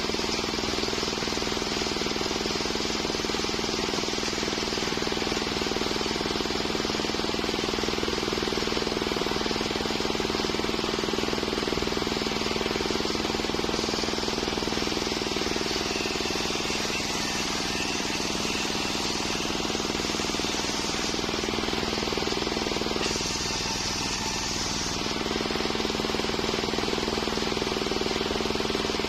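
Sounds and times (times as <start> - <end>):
sawmill drone: 0.0 - 29.0.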